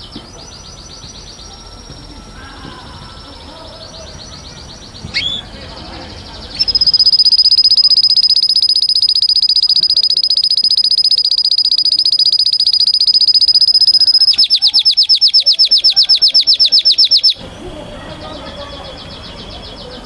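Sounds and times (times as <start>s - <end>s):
canary trilling: 0.0s - 17.4s.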